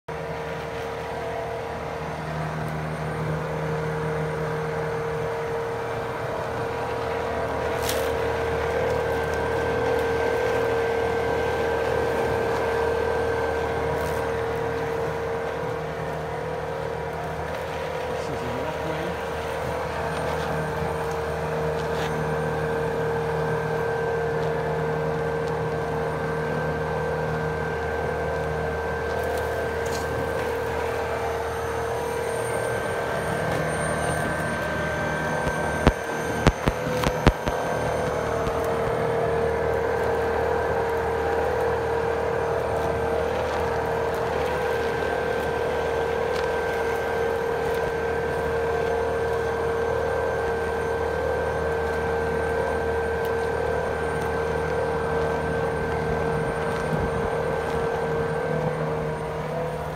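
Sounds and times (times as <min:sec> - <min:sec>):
robotic snow plow motors whining: 0:00.0 - 0:59.9.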